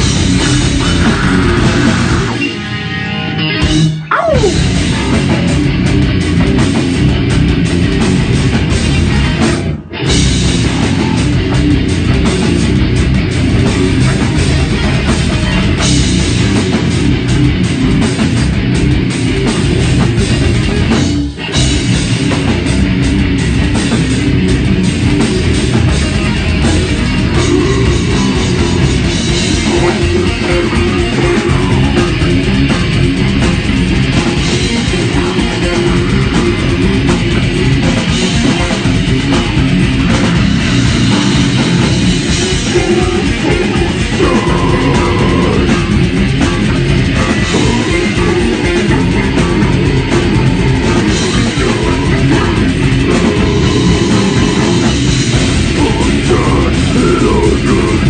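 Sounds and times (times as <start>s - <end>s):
death metal band playing: 0.0s - 58.0s.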